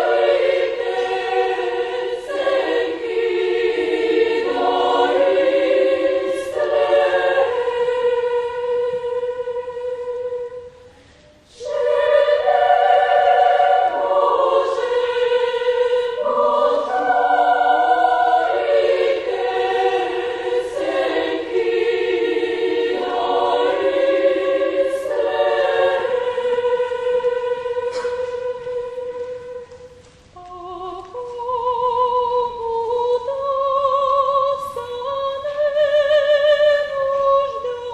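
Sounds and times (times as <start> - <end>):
children's choir singing unaccompanied: 0.0 - 37.9.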